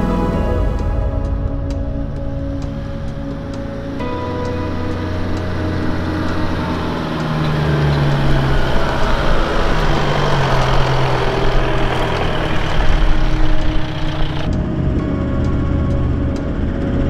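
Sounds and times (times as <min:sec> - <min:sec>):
vehicle engine climbing dirt track: 0:00.0 - 0:17.0.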